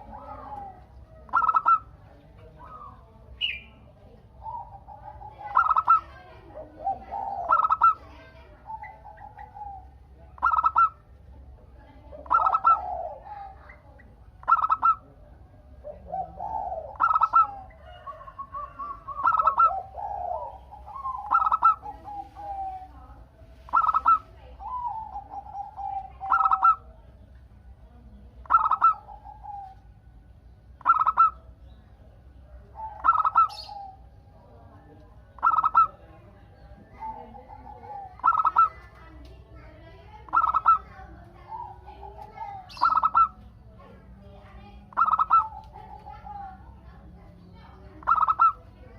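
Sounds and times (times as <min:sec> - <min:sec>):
doves cooing: 0:00.0 - 0:48.9.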